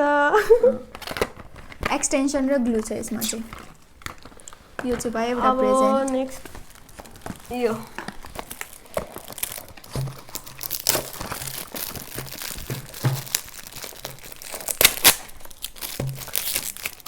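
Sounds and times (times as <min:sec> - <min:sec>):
gift wrapping crumpling: 0:00.6 - 0:17.0
paper ripping: 0:00.9 - 0:17.0.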